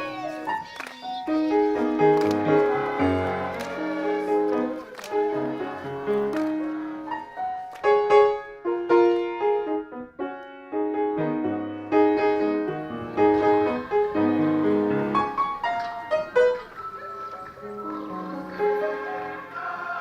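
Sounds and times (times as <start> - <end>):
solo piano: 0.0 - 19.6.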